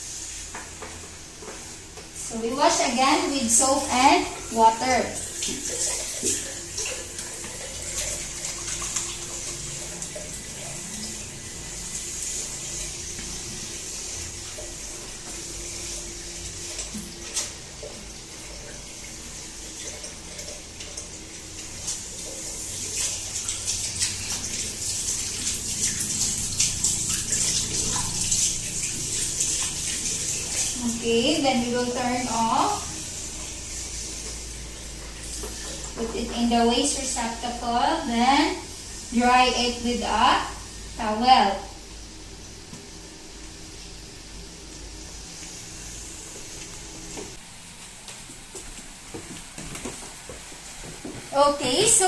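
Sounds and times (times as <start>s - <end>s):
water from tap into sink: 0.0s - 47.4s.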